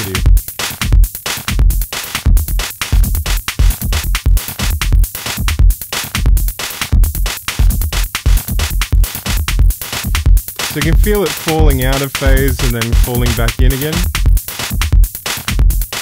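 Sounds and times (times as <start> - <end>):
electronic kick drum: 0.0 - 16.0
hi-hat hits: 0.0 - 16.0
electronic snare hits: 2.9 - 16.0.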